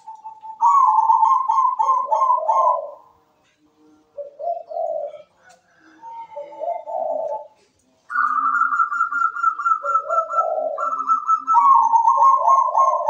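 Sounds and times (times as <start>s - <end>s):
dove cooing: 0.0s - 3.2s, 4.1s - 13.0s.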